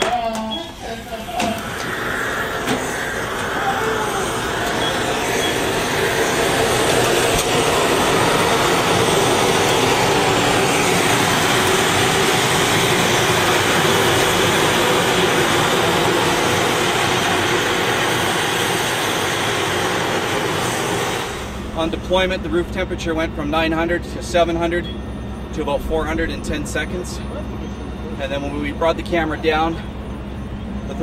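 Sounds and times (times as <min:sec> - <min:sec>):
fire suppression device roaring: 0:00.0 - 0:31.0.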